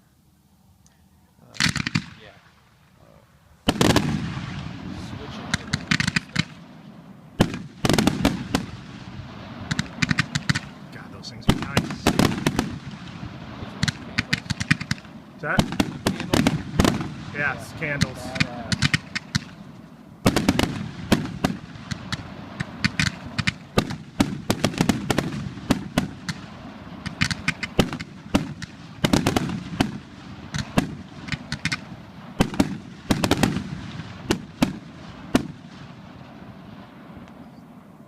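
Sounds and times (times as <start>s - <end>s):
fireworks thumps and cracks: 1.6s - 2.4s, 3.7s - 6.6s, 7.4s - 35.9s.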